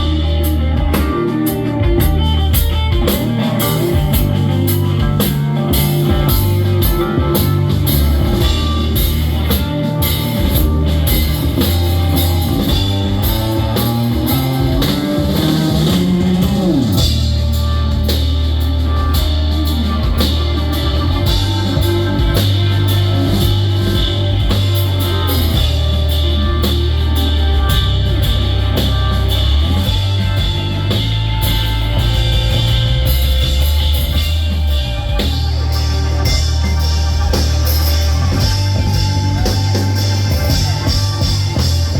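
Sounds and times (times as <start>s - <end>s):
heavy bass: 0.0s - 41.9s
live rock band playing: 0.0s - 41.9s.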